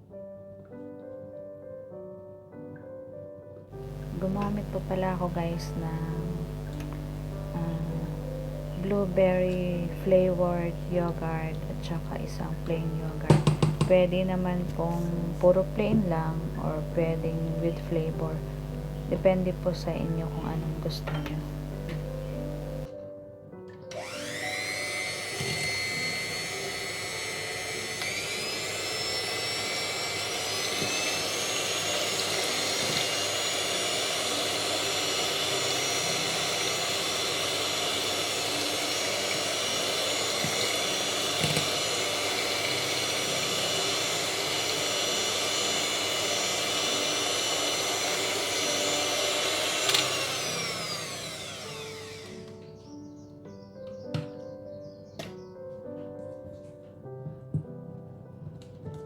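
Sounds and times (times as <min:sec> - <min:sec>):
electric mixer whining: 0:03.8 - 0:22.9, 0:23.9 - 0:52.6.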